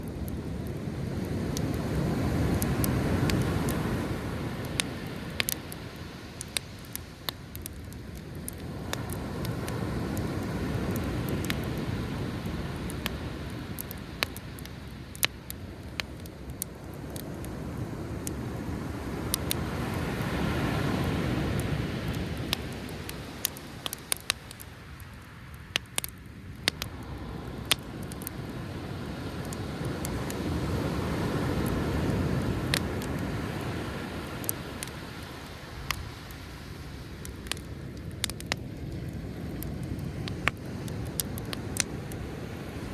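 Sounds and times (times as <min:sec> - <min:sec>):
campfire crackling and popping: 0:00.0 - 0:42.9
sea waves washing: 0:00.1 - 0:25.9, 0:26.7 - 0:42.9.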